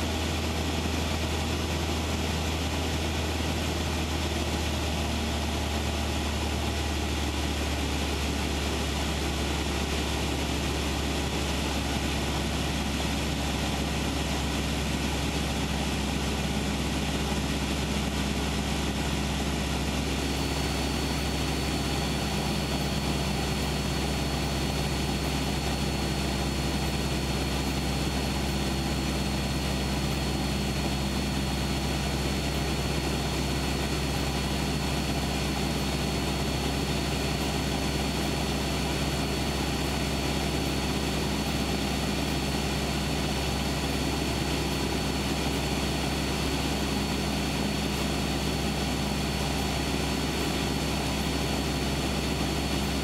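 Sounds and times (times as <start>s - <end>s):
aircraft engine droning: 0.0s - 53.0s
high steady whine: 0.0s - 53.0s.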